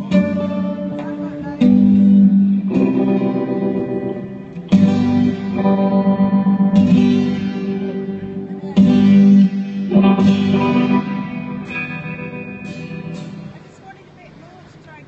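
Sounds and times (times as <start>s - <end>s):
guitar chords strummed: 0.0s - 15.0s.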